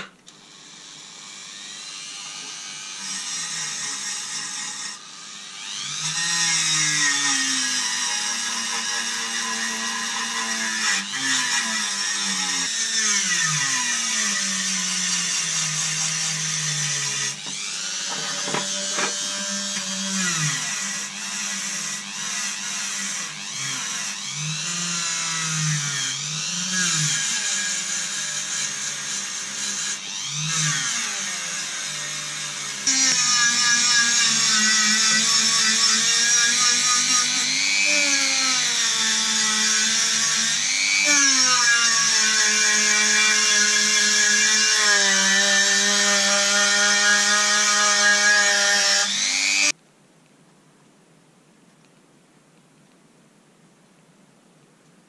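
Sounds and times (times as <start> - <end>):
rotary tool whine: 0.0 - 49.7.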